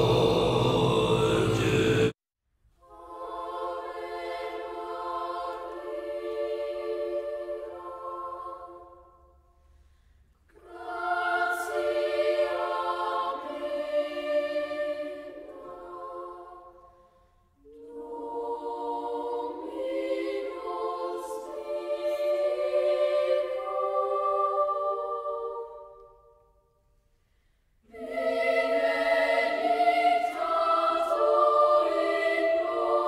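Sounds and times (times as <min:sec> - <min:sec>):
choir singing: 0:00.0 - 0:02.2, 0:02.8 - 0:09.3, 0:10.5 - 0:26.6, 0:27.8 - 0:33.0.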